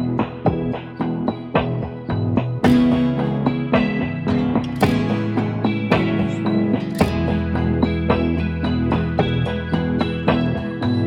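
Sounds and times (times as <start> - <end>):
sustained low bass: 0.0 - 11.0.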